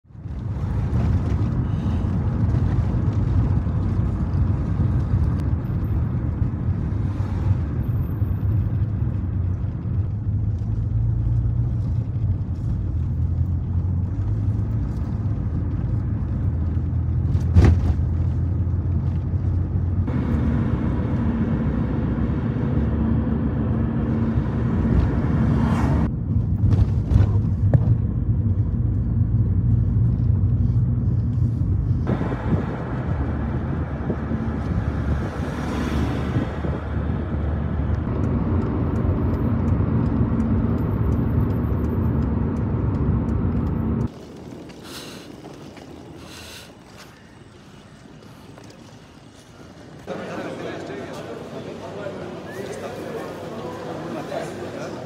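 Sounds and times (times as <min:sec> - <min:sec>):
moving vehicle rumble: 0:00.0 - 0:55.0.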